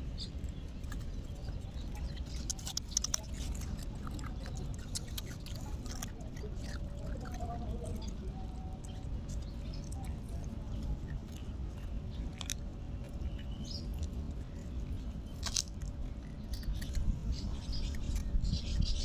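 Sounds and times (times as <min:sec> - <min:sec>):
puppy crunching biscuit: 0:00.0 - 0:19.0.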